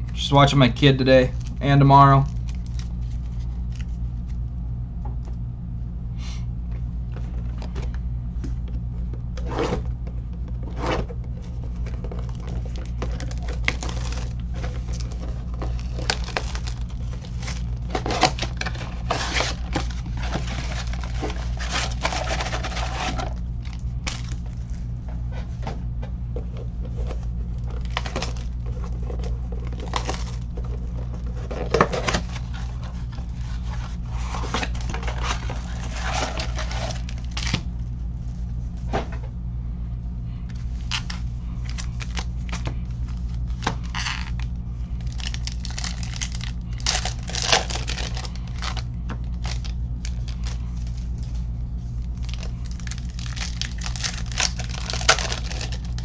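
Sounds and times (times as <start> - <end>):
steady low hum: 0.0 - 56.0
trading cards rustling: 0.3 - 4.5, 7.2 - 37.7, 40.5 - 56.0.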